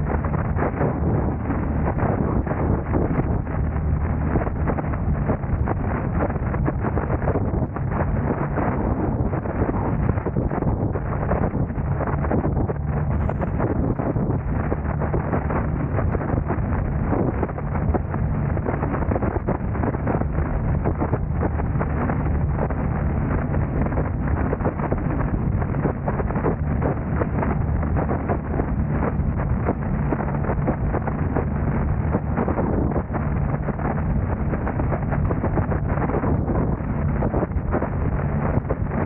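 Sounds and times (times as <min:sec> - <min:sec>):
car engine and tyre hum: 0:00.0 - 0:39.0
wind buffeting microphone: 0:00.0 - 0:39.0.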